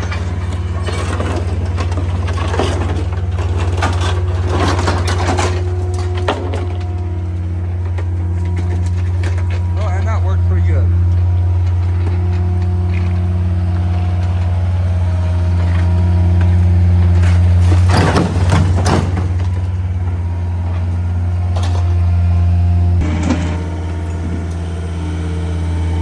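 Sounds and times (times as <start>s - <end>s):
vehicle engine idling: 0.0s - 17.8s, 19.0s - 26.0s.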